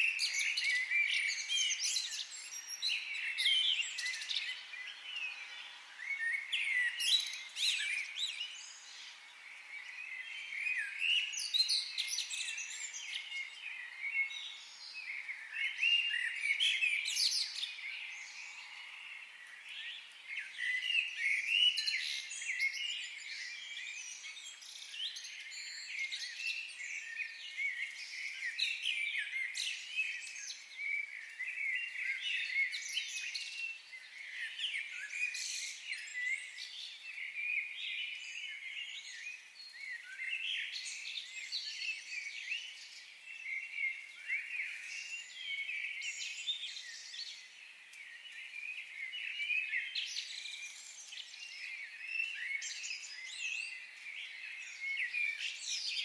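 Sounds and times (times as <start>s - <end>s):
wild birds chirping and singing: 0.0s - 56.0s.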